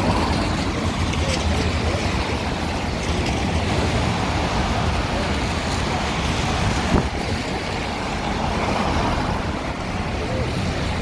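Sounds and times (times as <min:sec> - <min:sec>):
traffic on wet road: 0:00.0 - 0:11.0
wind buffeting microphone: 0:00.0 - 0:11.0.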